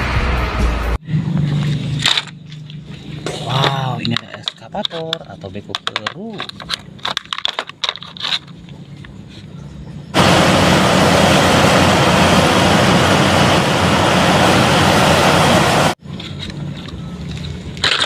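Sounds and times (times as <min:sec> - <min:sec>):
heavy machine engine rumble: 0:00.0 - 0:17.8.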